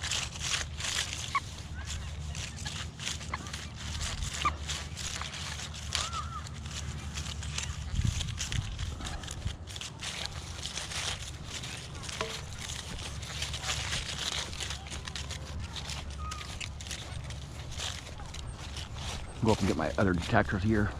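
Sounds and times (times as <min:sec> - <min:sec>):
crunching and rustling: 0:00.0 - 0:20.9.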